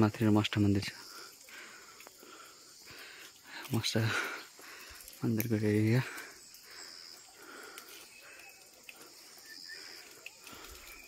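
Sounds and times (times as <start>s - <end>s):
faint rural outdoor ambience: 0.0s - 11.0s.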